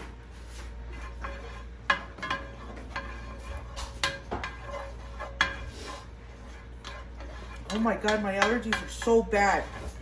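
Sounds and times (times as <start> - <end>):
utensil scraping a skillet: 0.0 - 10.0.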